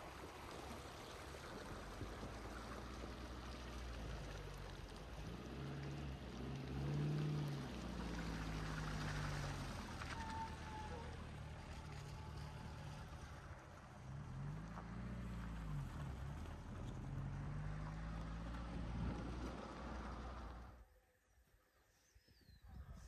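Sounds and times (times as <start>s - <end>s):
engine pulling a trailer: 0.0s - 20.8s.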